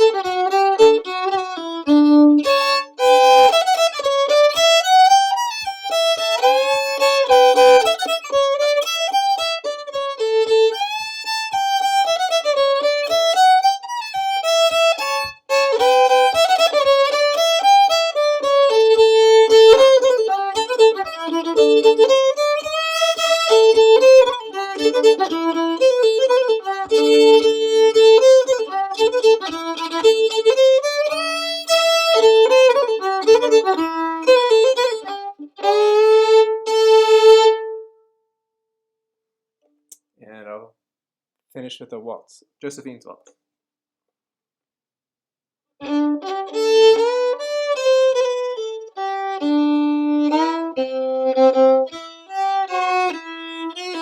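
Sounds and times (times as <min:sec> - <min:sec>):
solo fiddle tune: 0:00.0 - 0:38.0, 0:45.8 - 0:54.0.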